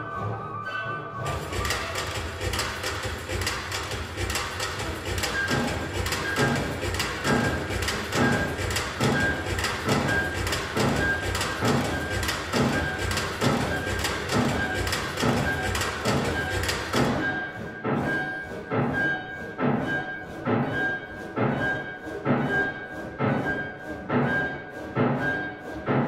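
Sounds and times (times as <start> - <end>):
chamber music strings and piano: 0.0 - 26.0
mechanical thumping pulse: 1.3 - 26.0.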